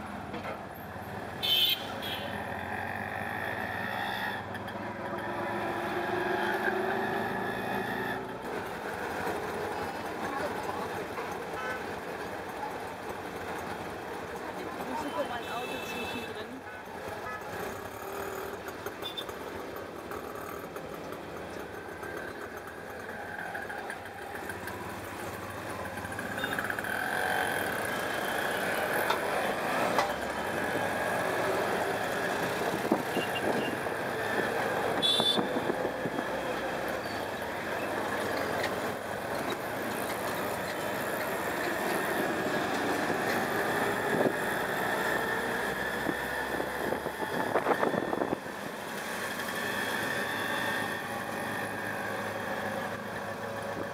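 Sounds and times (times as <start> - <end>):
auto-rickshaw engine running: 0.0 - 53.9
street traffic: 0.0 - 53.9.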